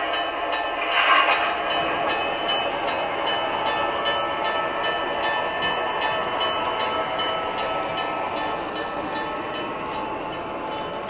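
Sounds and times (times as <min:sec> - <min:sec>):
model trains rolling: 0:00.0 - 0:11.0.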